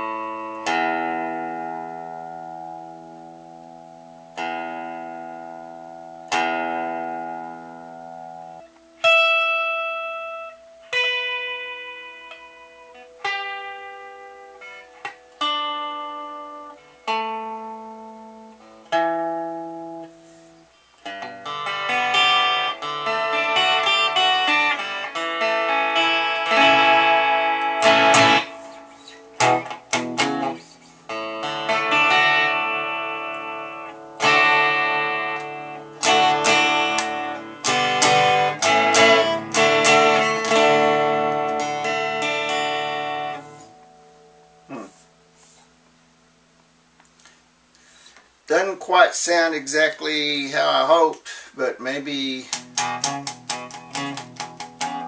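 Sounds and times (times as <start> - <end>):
clean electric guitar: 0.0 - 55.0.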